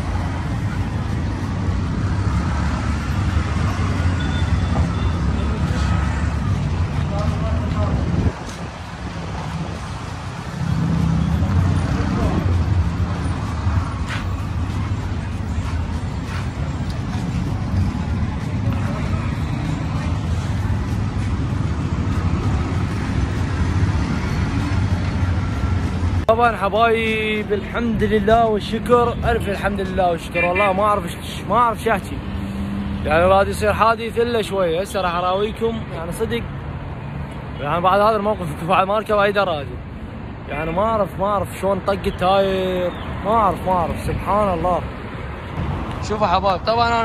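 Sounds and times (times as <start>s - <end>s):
street traffic rumble: 0.0s - 47.0s.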